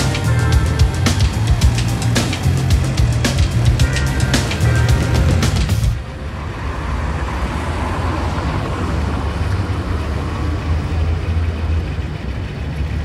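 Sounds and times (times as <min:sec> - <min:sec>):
motorbike and car engines rumbling: 0:00.0 - 0:13.0.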